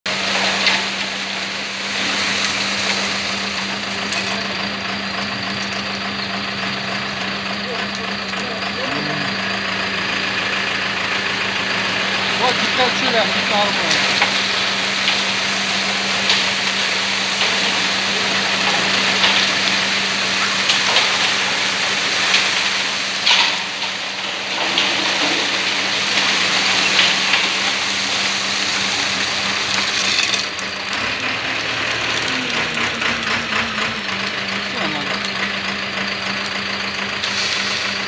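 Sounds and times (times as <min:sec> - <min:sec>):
diesel engine running: 0:00.0 - 0:38.0
wet concrete pouring down chute: 0:00.1 - 0:38.0.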